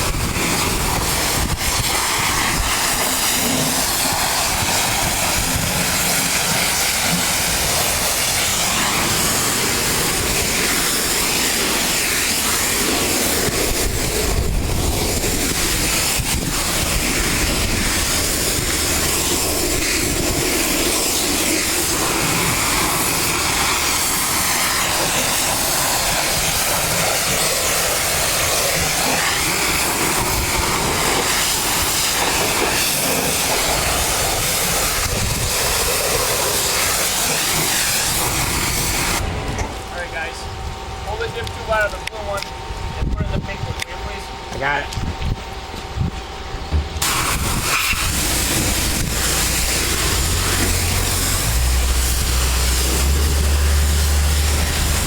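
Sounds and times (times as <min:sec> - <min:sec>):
pressure washer spraying: 0:00.0 - 0:39.3, 0:47.0 - 0:55.0.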